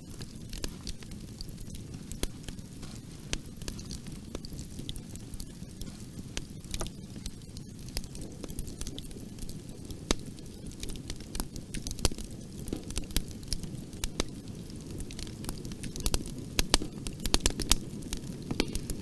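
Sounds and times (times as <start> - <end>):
fire popping and snapping: 0.0 - 19.0
low rumble of flames: 0.0 - 19.0.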